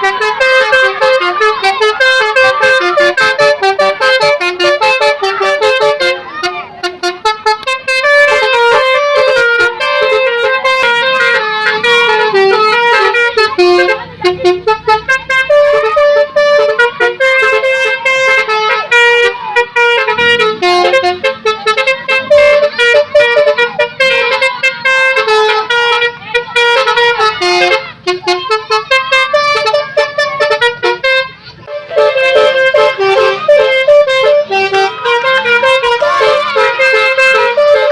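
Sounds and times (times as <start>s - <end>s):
musical bus horn playing tune: 0.0s - 37.9s.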